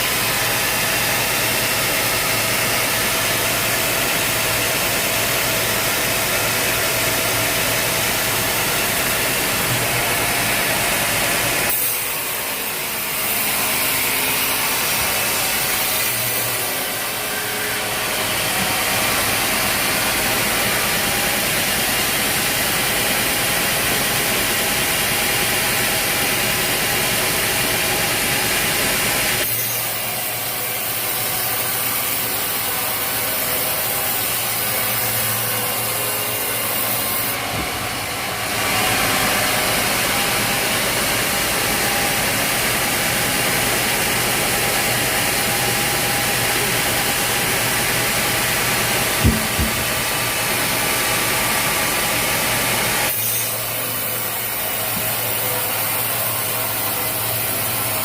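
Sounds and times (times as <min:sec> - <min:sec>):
sawmill sawing through log: 0:00.0 - 0:58.0.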